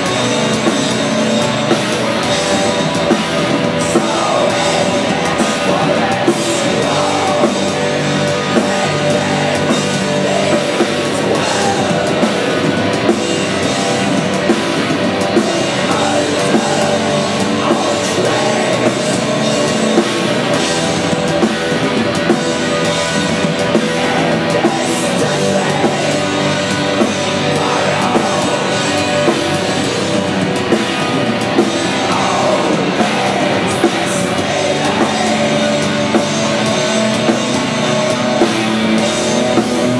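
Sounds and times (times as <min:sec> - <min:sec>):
distorted guitars and bass: 0:00.0 - 0:39.9.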